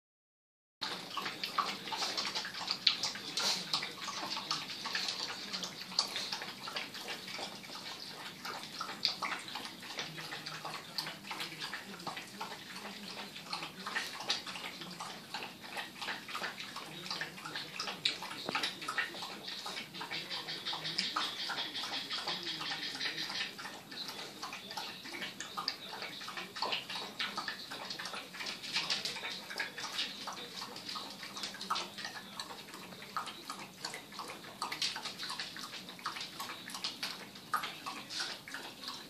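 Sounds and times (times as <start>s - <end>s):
dogs lapping water: 0.8s - 39.0s.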